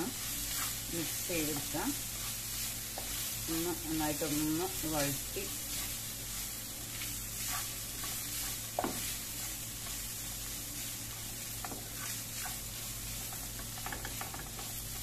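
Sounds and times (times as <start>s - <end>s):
food sizzling in a frying pan: 0.0s - 15.0s
spatula scraping a pan: 0.0s - 15.0s.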